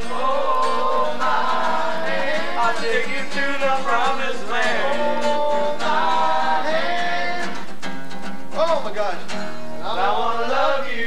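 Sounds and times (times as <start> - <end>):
group of voices singing: 0.0 - 7.7, 9.8 - 11.0
strummed acoustic guitar: 0.0 - 11.0.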